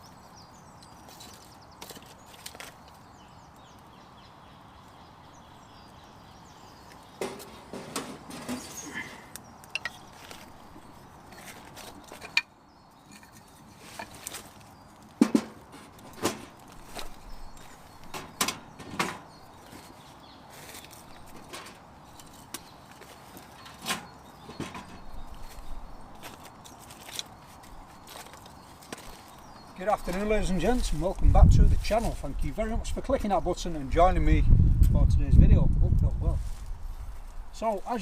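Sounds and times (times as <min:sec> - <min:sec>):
steady outdoor hiss: 0:00.0 - 0:38.0.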